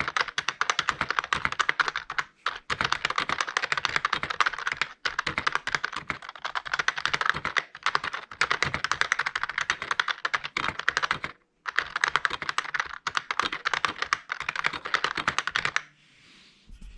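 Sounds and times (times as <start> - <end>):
fast keyboard typing: 0.0 - 15.9.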